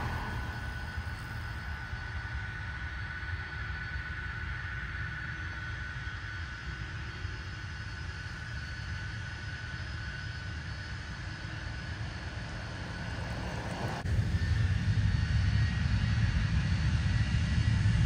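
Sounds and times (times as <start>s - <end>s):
jet engines rumbling: 0.0s - 18.0s
thin steady whine: 0.0s - 18.0s.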